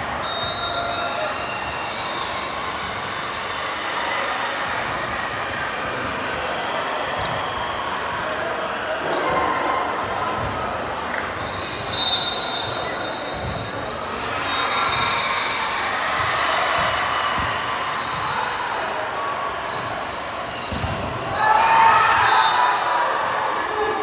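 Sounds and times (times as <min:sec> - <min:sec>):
sneakers squeaking: 0:00.1 - 0:08.4, 0:09.0 - 0:24.0
players' voices: 0:00.1 - 0:24.0.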